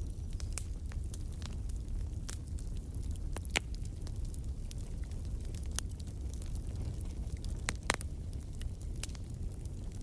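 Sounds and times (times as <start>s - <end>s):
fire crackling and popping: 0.0s - 10.0s
low rumble of flames: 0.0s - 10.0s.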